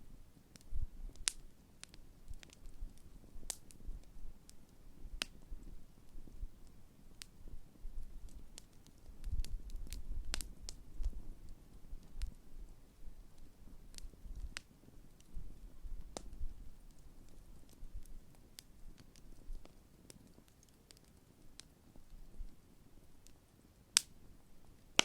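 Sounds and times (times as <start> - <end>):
low fire rumble: 0.0 - 25.0
campfire pops and crackles: 0.5 - 25.0.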